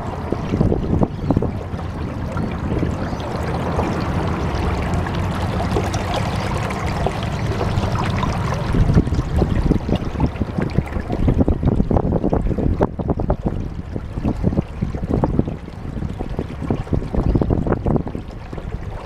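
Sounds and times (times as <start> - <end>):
low rumble: 0.0 - 19.0
water splashing and trickling: 0.0 - 19.0.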